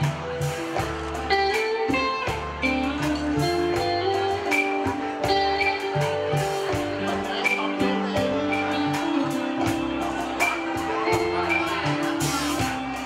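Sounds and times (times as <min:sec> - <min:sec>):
band playing instrumental music: 0:00.0 - 0:13.0.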